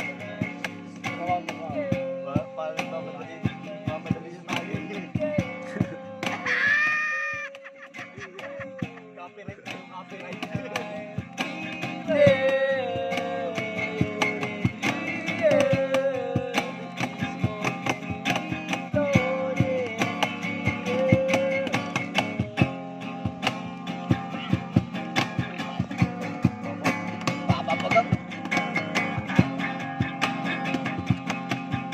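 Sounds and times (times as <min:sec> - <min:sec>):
person singing: 0:00.0 - 0:23.2, 0:24.1 - 0:28.2
acoustic guitar strumming: 0:00.0 - 0:31.9.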